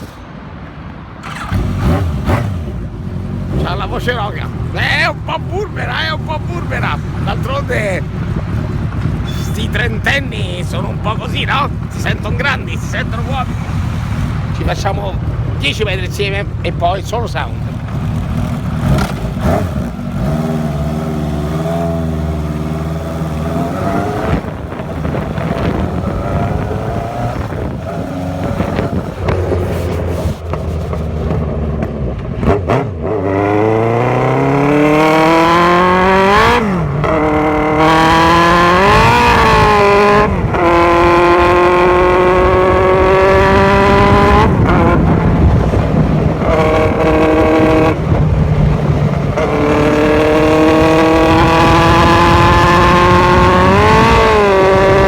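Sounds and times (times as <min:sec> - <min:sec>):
motorcycle engine accelerating: 0:01.2 - 0:55.0.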